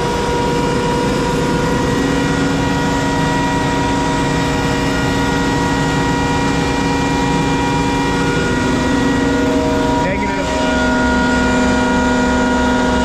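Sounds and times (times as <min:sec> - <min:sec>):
engine whine: 0:00.0 - 0:13.0
heavy engine rumbling: 0:00.0 - 0:13.0.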